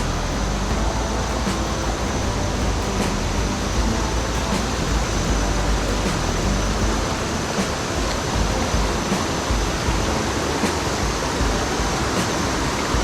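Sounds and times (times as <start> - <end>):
low rumbles: 0.0 - 13.0
waterfall rushing: 0.0 - 13.0.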